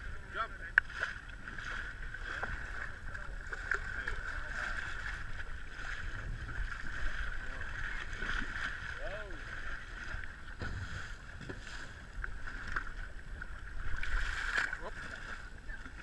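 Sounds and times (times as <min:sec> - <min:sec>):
motorboat engine running: 0:00.0 - 0:16.0
water rushing past hull: 0:00.0 - 0:16.0.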